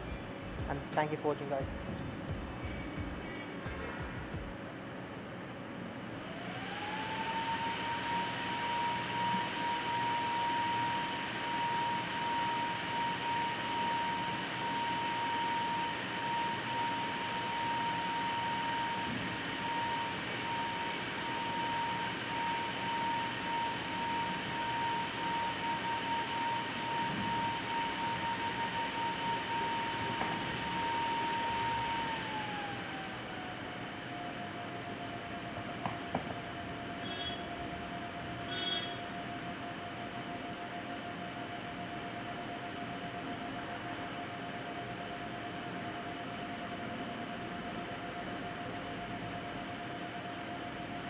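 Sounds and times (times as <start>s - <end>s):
graphics card fans whirring: 0.0s - 51.0s.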